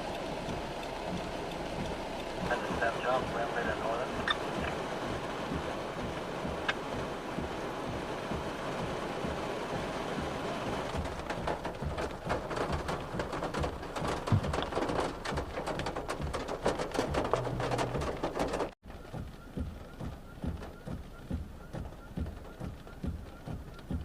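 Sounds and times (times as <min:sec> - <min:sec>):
rain hissing: 0:00.0 - 0:22.0
raindrops pattering on a surface: 0:00.0 - 0:24.0.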